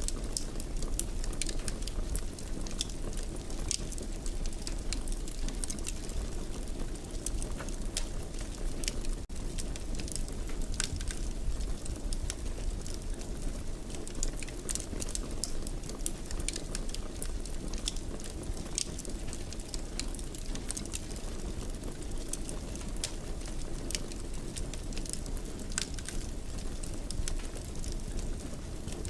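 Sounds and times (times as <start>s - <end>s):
fire crackling and popping: 0.0s - 29.0s
low rush of flames: 0.0s - 29.0s.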